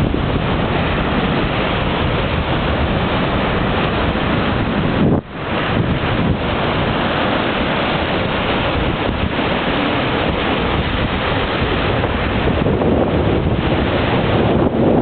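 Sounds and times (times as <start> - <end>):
small waves breaking on beach: 0.0 - 15.0
wind buffeting microphone: 0.0 - 15.0.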